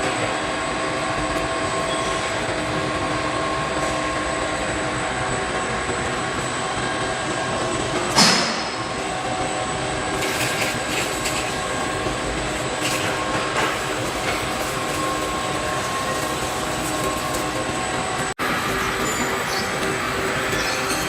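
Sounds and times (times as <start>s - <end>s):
machinery whining: 0.0s - 21.0s.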